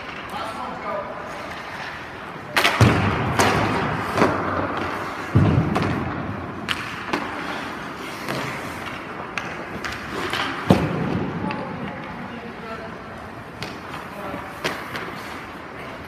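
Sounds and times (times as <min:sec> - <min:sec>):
skates scraping on ice: 0:00.0 - 0:16.0.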